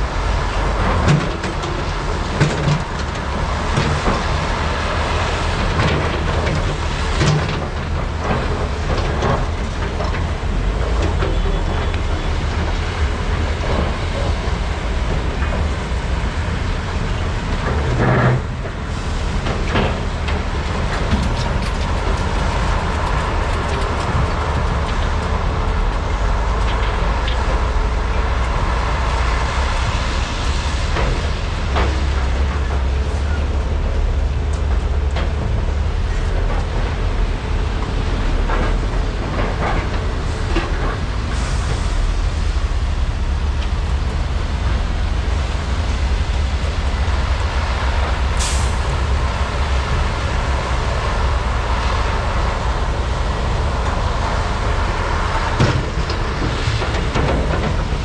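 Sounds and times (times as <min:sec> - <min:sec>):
excavator diesel engines rumbling: 0:00.0 - 0:58.0.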